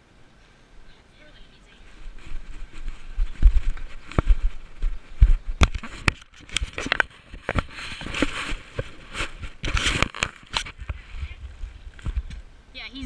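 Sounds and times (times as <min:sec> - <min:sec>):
scraping rustles: 0:01.2 - 0:12.4.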